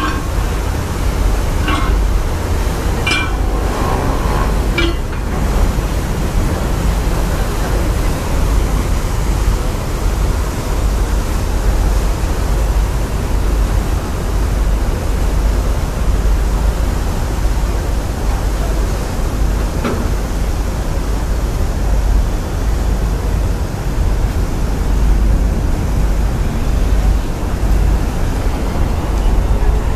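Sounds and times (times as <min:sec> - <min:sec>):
ship engines rumbling: 0:00.0 - 0:29.9.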